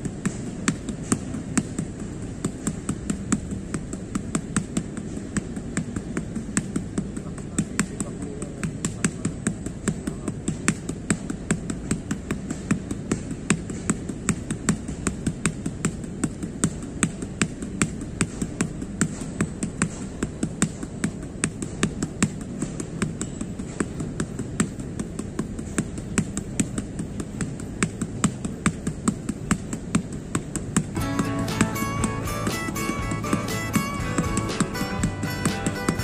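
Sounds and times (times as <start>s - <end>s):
punches smacking mitts: 0.0s - 36.0s.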